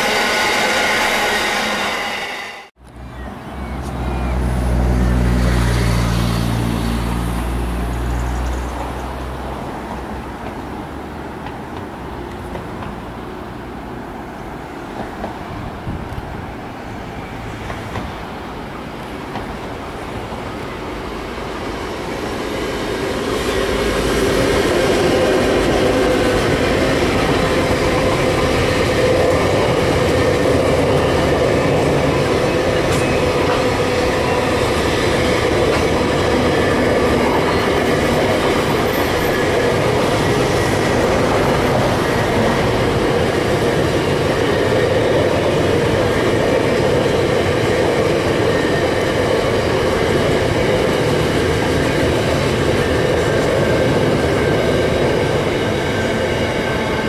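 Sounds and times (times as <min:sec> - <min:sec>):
diesel freight train approaching: 0:00.0 - 0:57.0
train wheels rumbling on rail: 0:00.0 - 0:57.0.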